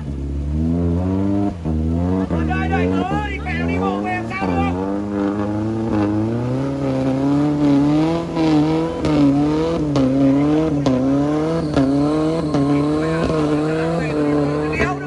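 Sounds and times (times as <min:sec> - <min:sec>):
engine revving hard: 0:00.0 - 0:15.0.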